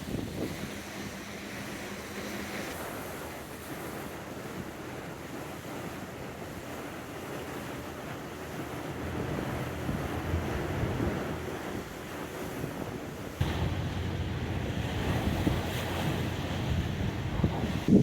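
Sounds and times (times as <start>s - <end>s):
wind buffeting microphone: 0.0s - 3.0s, 3.6s - 18.0s
water washing past boat: 0.0s - 18.0s.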